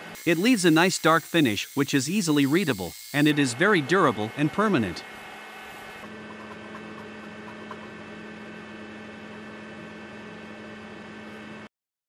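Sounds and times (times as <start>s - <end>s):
electrical hum: 1.8s - 11.7s.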